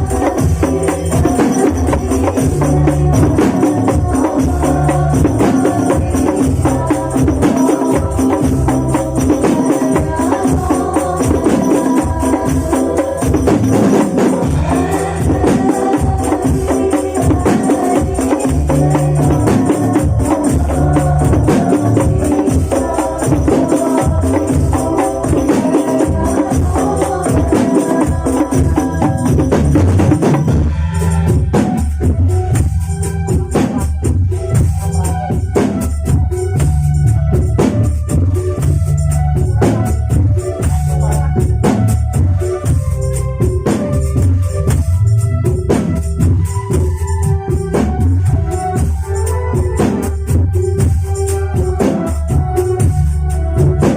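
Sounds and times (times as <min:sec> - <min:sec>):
frame drums and tambourines: 0:00.0 - 0:53.9.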